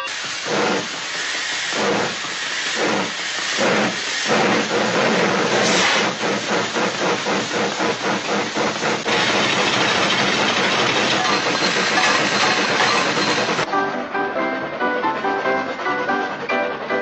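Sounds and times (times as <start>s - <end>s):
steam hiss: 0.0s - 13.7s
steam locomotive chuffing: 0.0s - 17.0s.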